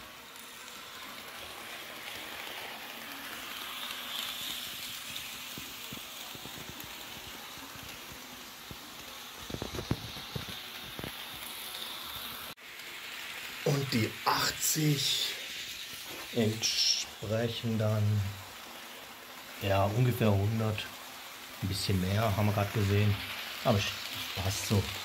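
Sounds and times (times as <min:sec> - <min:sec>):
model trains whirring on track: 0:00.0 - 0:25.0.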